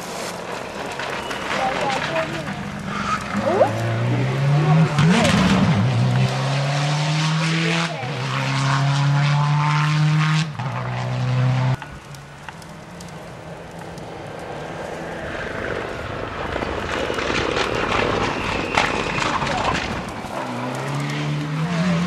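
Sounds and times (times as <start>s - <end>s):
rally car approaching: 0.0s - 22.0s
rally car engine passing: 2.5s - 22.0s.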